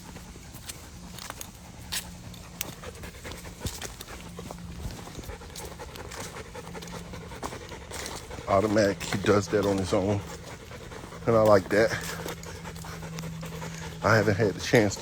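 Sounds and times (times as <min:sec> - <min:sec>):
dog panting: 0:00.0 - 0:15.0
footstep clicks on trail: 0:00.0 - 0:15.0.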